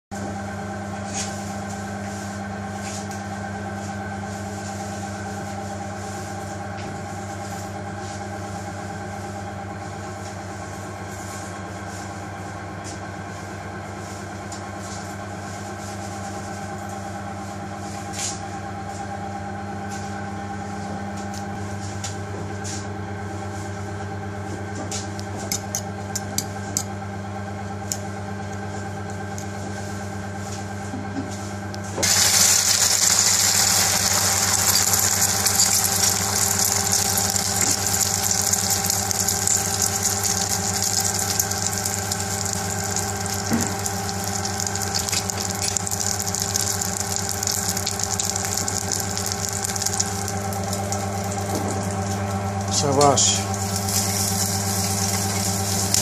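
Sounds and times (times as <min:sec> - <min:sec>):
kitchen machinery humming: 0:00.2 - 0:56.0.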